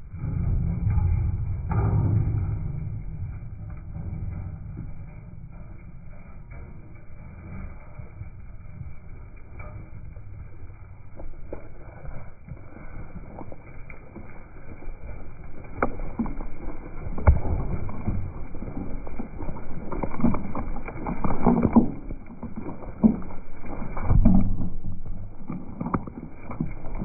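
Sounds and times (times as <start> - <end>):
hooves trampling on soft ground: 2.4 - 27.0.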